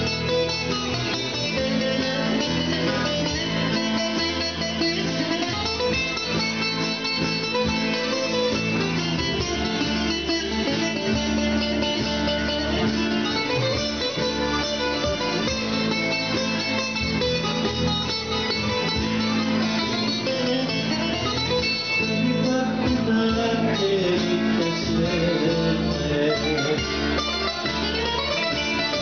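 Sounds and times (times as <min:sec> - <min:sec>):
live band playing: 0:00.0 - 0:29.0
plucked string instruments: 0:00.0 - 0:29.0.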